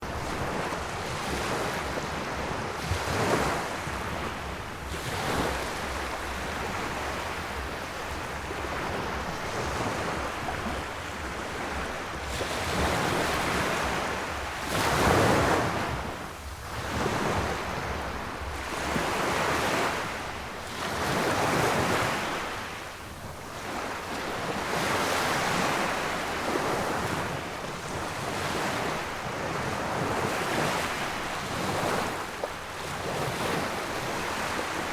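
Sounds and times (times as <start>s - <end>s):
sea waves surging: 0.0s - 34.9s.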